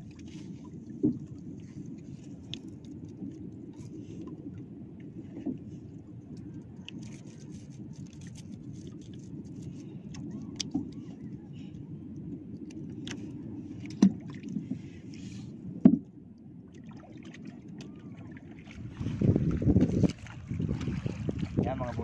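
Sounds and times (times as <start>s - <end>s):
water washing around a boat: 0.0s - 22.0s.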